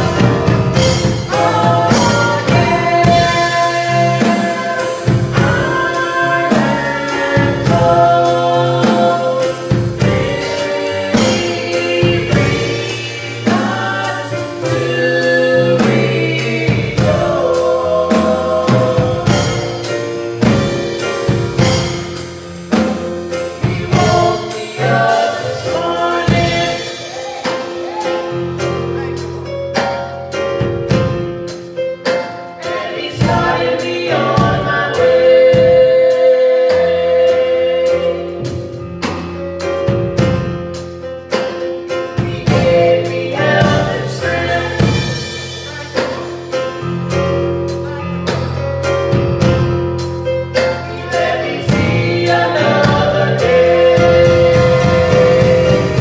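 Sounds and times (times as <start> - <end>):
voices singing together: 0.0 - 29.4, 32.2 - 39.2, 42.1 - 56.0
steady drum beat: 0.0 - 31.8, 32.4 - 36.9, 38.3 - 56.0.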